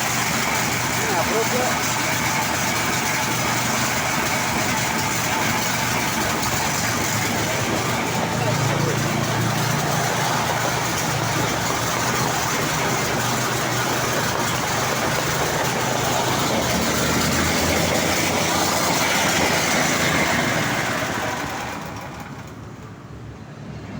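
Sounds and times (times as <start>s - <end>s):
dense mechanical rattle: 0.0s - 23.0s
small petrol engine running: 0.0s - 23.9s.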